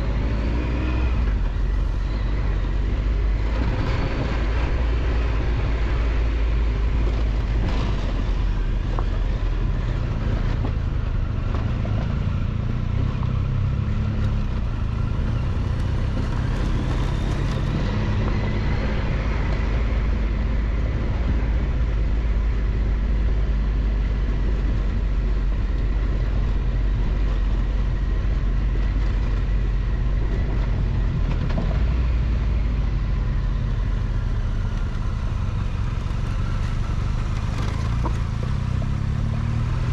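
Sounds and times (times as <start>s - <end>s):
tyre noise on dirt road: 0.0s - 39.9s
wind: 0.0s - 39.9s.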